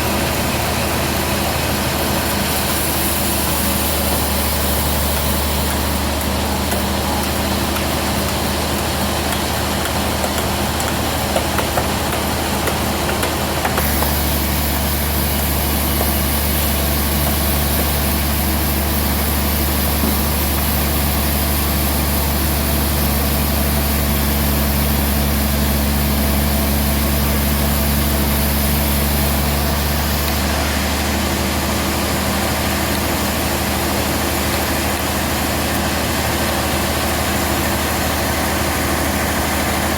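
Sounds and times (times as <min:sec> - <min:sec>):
sawmill machine hum: 0:00.0 - 0:39.9.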